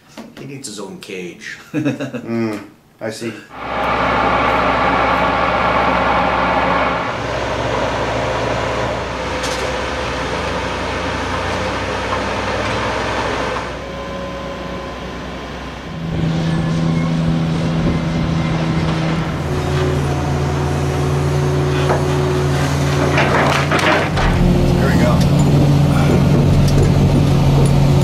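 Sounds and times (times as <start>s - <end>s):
diesel engine running: 3.5s - 28.0s.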